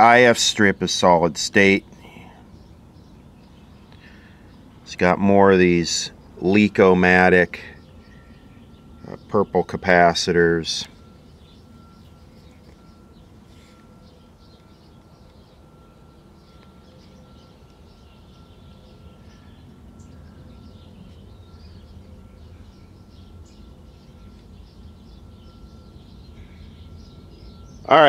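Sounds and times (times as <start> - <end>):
thin steady high tone: 0.0 - 28.0.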